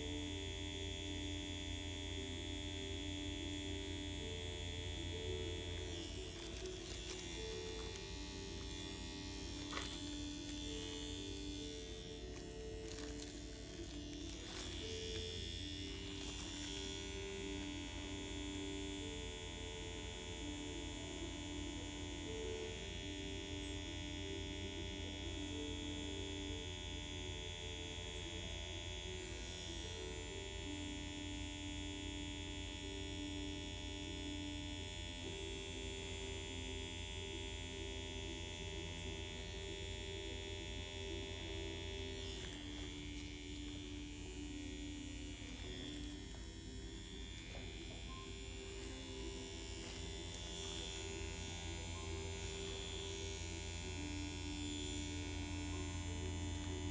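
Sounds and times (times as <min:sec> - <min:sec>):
soft slow background music: 0:00.0 - 0:56.9
tattoo pen buzzing: 0:00.0 - 0:56.9.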